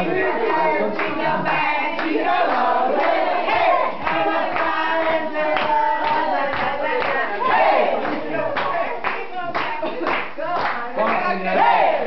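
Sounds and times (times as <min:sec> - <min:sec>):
voices raised together: 0:00.0 - 0:12.0
people clapping: 0:00.4 - 0:12.0.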